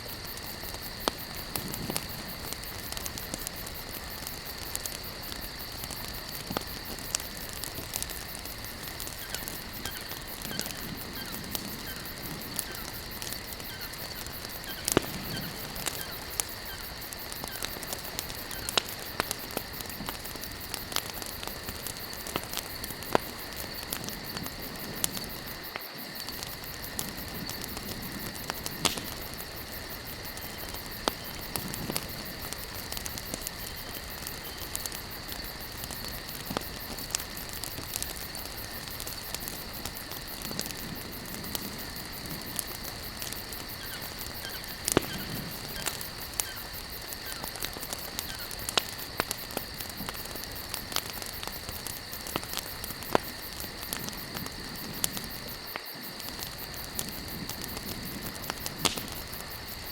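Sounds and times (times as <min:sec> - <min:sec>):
campfire crackling and hissing: 0:00.0 - 0:59.9
loud fire pops: 0:00.0 - 0:59.9.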